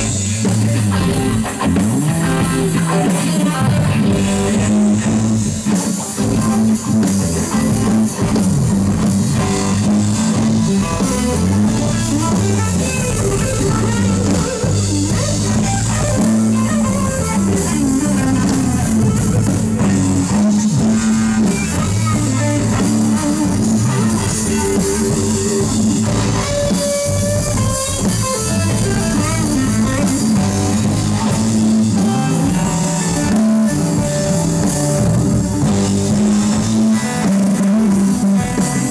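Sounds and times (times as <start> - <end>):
drum kit: 0.0 - 38.9
electric guitar lead lines: 0.0 - 38.9
low boogie riff: 0.0 - 38.9.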